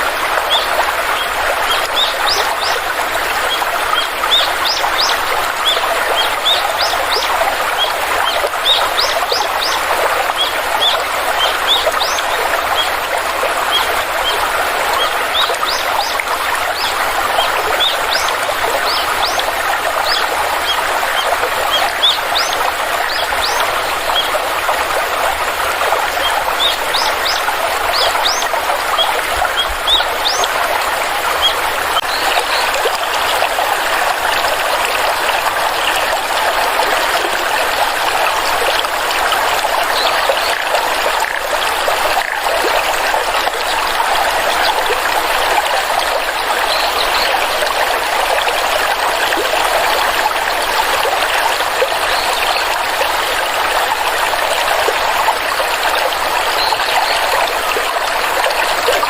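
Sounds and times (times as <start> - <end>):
forest stream trickling: 0.0 - 59.0.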